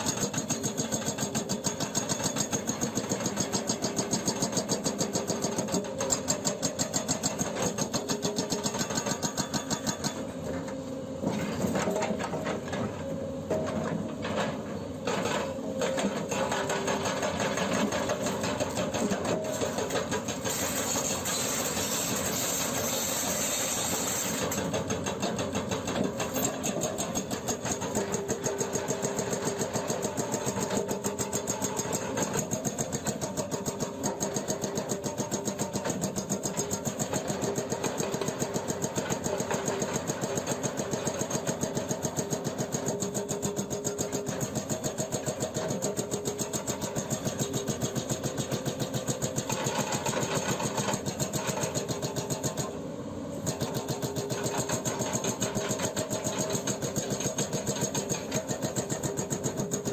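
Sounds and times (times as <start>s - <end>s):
hydraulic hammer pounding rock: 0.0s - 10.6s, 11.2s - 59.9s.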